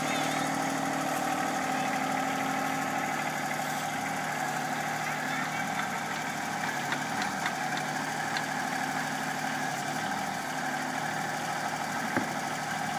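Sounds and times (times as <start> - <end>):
backhoe engine running: 0.0 - 12.9.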